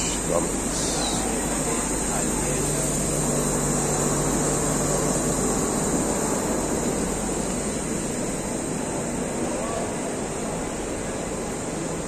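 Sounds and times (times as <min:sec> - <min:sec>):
train mechanical drone: 0:00.0 - 0:12.0.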